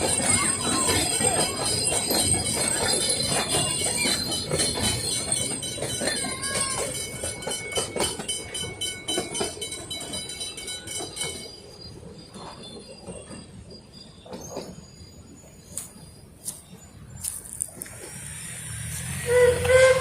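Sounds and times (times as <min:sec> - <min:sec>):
high wheel squeal: 0:00.0 - 0:17.2, 0:17.9 - 0:20.0
wheels clacking over rail joints: 0:00.0 - 0:20.0.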